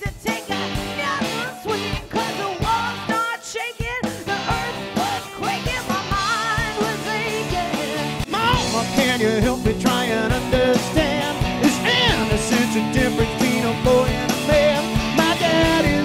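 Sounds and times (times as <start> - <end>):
rock band playing: 0.0 - 16.0
lead singing: 0.1 - 16.0.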